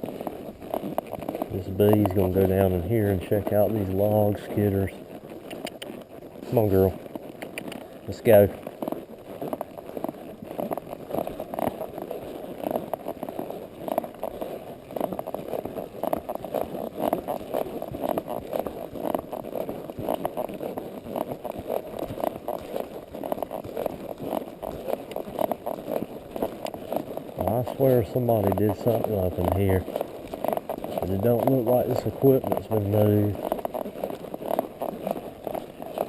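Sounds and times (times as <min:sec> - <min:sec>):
clothing and tack rubbing: 0:00.0 - 0:36.0
horse hooves walking: 0:00.0 - 0:36.0.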